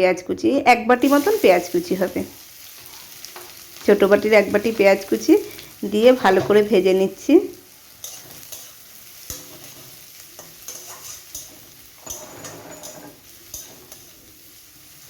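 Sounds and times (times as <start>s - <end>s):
onion sizzling in oil: 0.7s - 15.0s.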